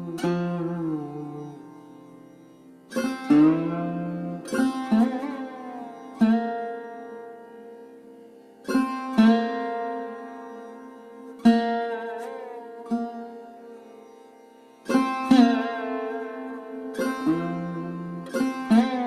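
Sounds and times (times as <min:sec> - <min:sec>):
plucked string meditation music: 0:00.0 - 0:19.0.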